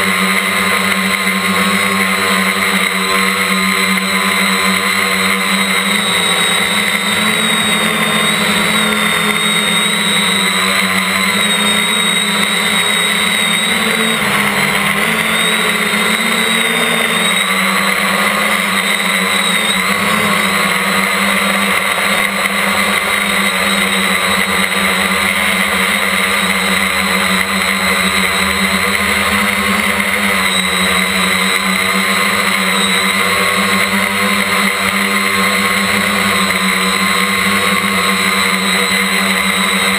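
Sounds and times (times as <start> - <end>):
drone propellers whining: 0.0 - 39.9.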